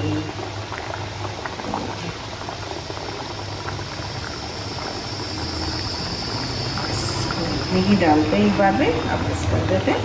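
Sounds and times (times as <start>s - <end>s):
low steady hum: 0.0s - 10.0s
oil sizzling in a pan: 0.0s - 10.0s.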